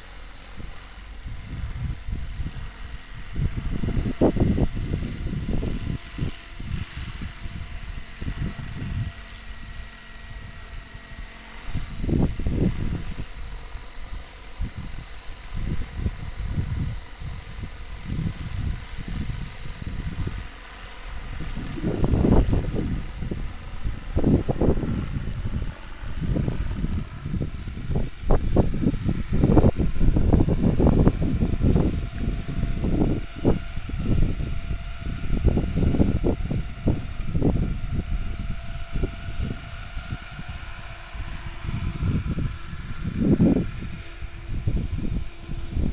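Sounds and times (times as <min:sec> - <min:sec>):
model helicopter whine: 0:00.0 - 0:45.9
wind buffeting microphone: 0:00.0 - 0:45.9.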